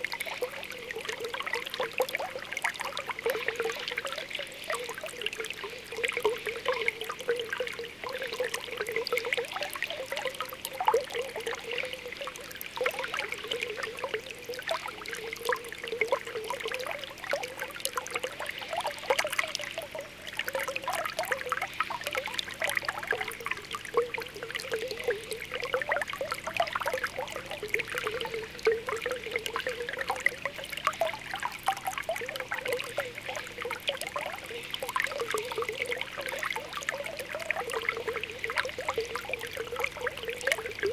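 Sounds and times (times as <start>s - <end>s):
spring water bubbling: 0.0s - 40.9s.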